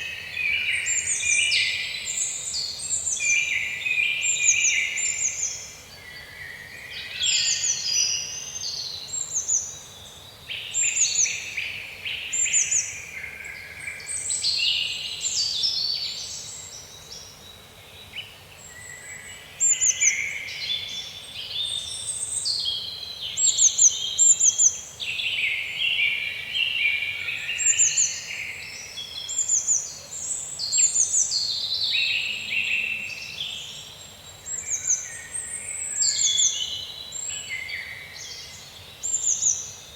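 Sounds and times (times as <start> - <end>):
birds singing: 0.0 - 39.9
faint background hiss: 0.0 - 39.9.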